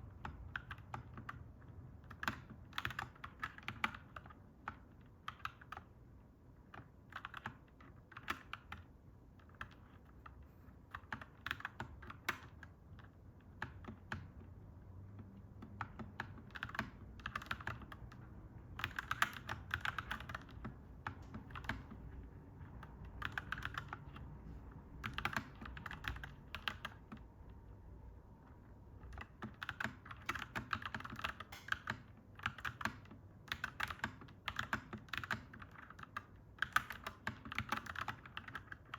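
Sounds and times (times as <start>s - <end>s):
mechanical keyboard typing: 0.0s - 27.7s, 28.4s - 38.9s.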